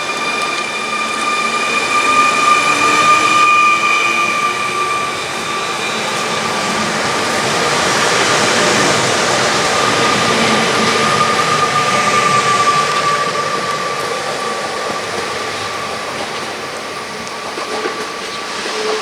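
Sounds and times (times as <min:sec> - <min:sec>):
electric train whine: 0:00.0 - 0:19.0
train running noise rushing: 0:00.0 - 0:19.0.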